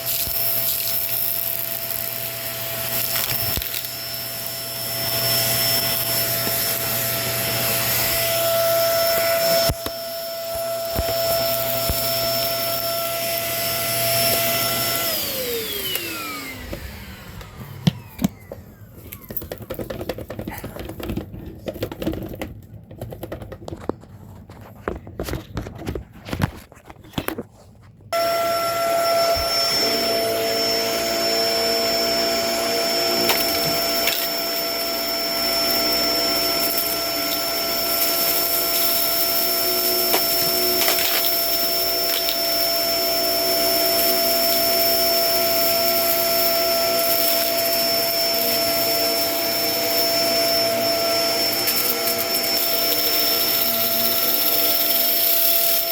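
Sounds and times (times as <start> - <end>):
vacuum cleaner motor running: 0.0 - 23.3, 28.1 - 55.9.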